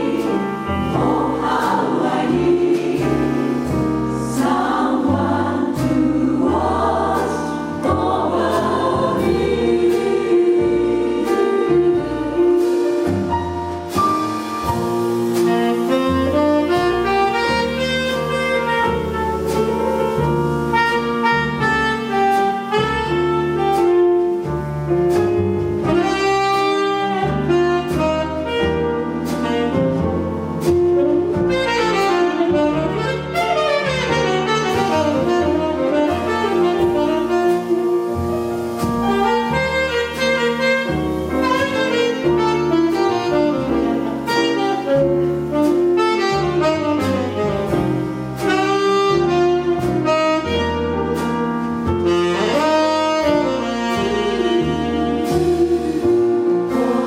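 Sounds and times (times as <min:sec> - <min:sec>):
jazz band piano bass drums: 0:00.0 - 0:57.0
jazz chorus singing in harmony: 0:00.0 - 0:57.0
saxophone melody: 0:00.0 - 0:57.0.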